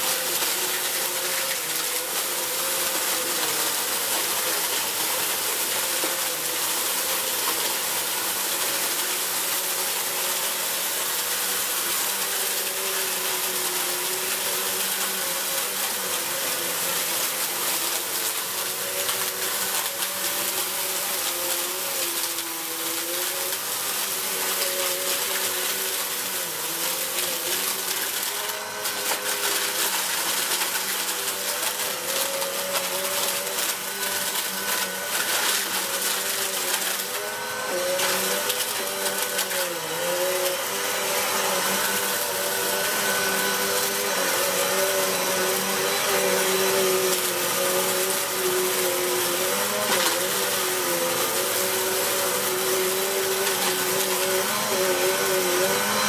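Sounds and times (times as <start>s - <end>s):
vacuum cleaner on carpet: 0.0s - 56.0s.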